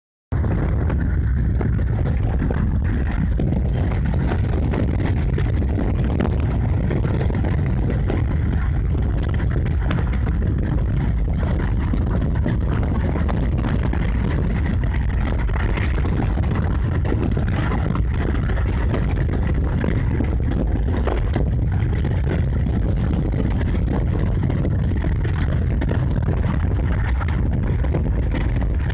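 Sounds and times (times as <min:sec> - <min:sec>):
vehicle rumbling along road: 0:00.3 - 0:28.9.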